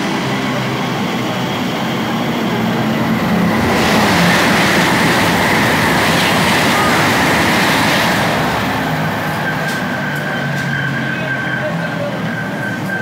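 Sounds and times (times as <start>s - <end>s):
electric train traction hum: 0.0s - 13.0s
wheel-on-rail noise: 0.9s - 13.0s.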